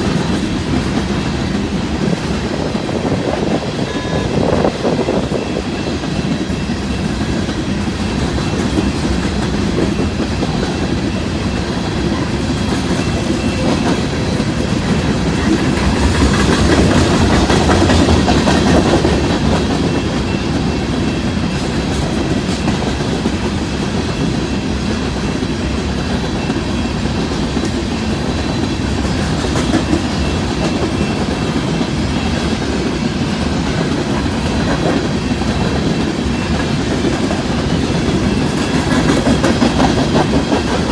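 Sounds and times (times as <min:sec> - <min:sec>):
train rolling past: 0:00.0 - 0:40.9
wheels clattering over rail joints: 0:04.6 - 0:40.9.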